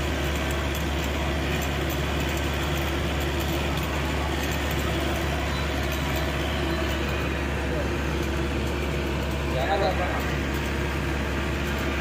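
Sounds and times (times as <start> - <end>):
bus engine drone: 0.0 - 12.0
constant low hum: 0.0 - 12.0.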